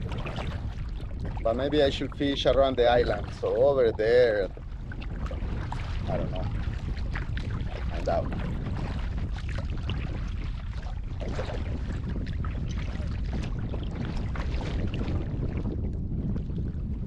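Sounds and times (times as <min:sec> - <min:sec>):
paddle splashing water: 0:00.0 - 0:16.8
wind rumble on microphone: 0:00.0 - 0:17.0.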